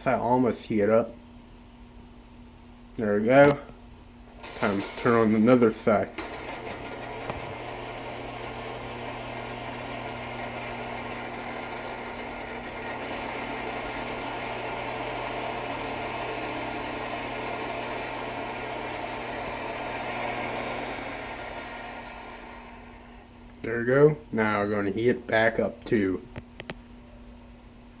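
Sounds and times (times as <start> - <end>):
electric heater humming: 0.0 - 28.0.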